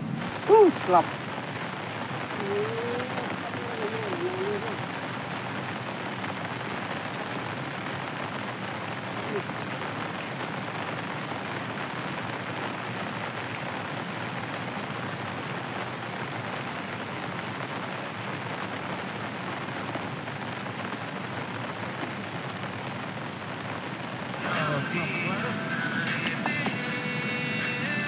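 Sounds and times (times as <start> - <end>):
rain falling on water: 0.0 - 28.0.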